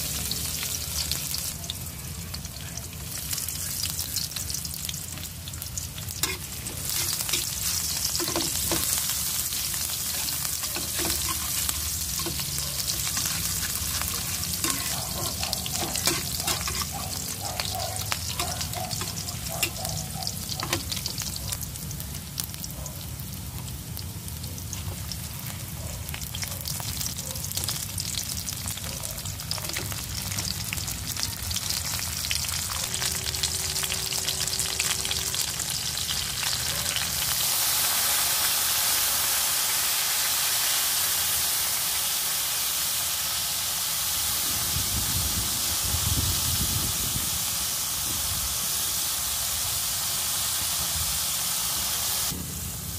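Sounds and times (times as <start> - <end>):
hot oil sizzling in a frying pan: 0.0 - 52.9.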